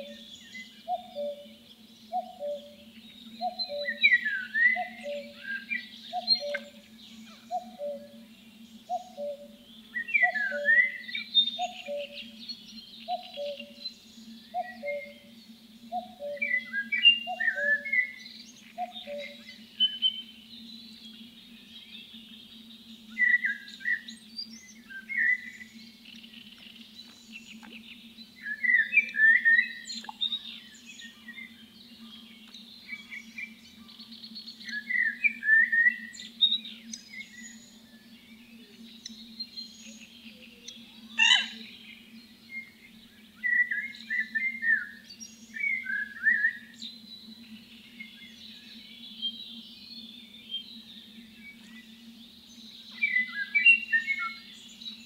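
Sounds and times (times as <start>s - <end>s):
faint birds calling: 0.0s - 55.0s
songbirds chattering: 0.0s - 55.0s.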